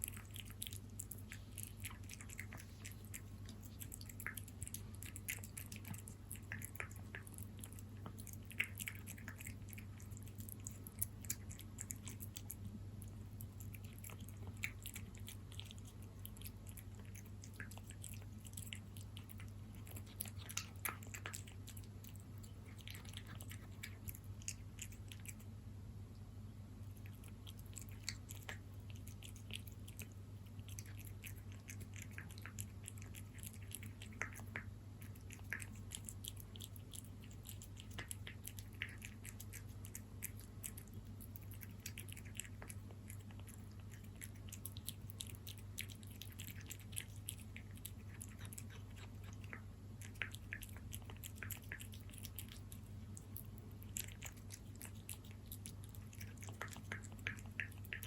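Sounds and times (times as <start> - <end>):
cat chewing and smacking: 0.0 - 58.0.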